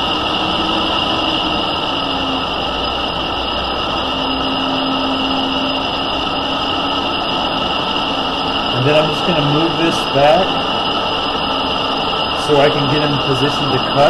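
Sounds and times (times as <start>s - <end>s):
lathe running: 0.0s - 14.0s
low tone: 0.0s - 14.0s.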